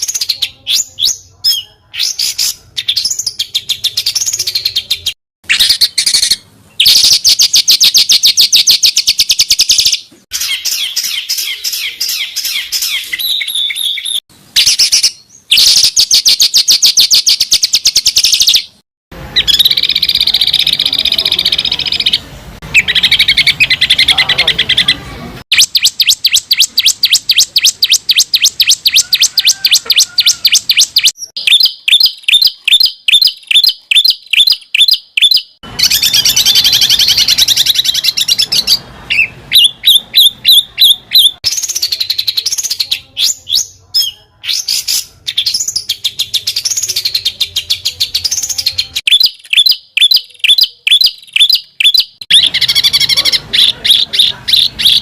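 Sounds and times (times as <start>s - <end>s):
wavering whistled bird phrases: 0.0s - 18.8s, 19.4s - 55.0s.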